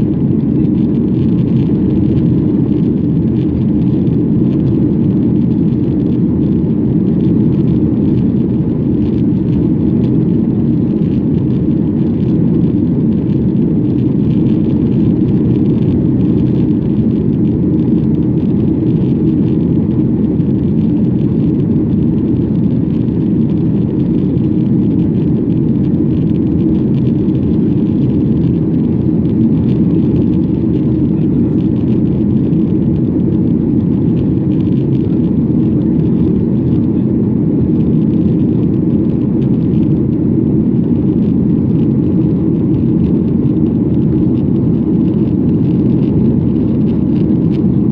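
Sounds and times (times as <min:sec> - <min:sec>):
jet engines rumbling: 0:00.0 - 0:47.9.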